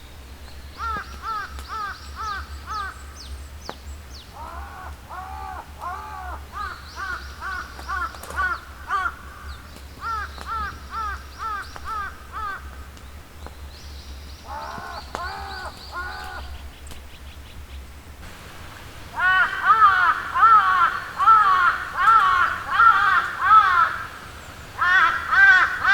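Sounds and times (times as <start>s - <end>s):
harsh caw-like bird calls: 0.8s - 3.4s, 4.3s - 13.0s, 14.4s - 16.8s, 18.7s - 25.9s.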